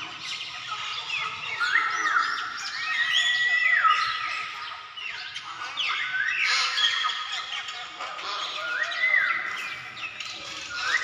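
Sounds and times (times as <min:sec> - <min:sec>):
birds whistling and singing: 0:00.0 - 0:11.0.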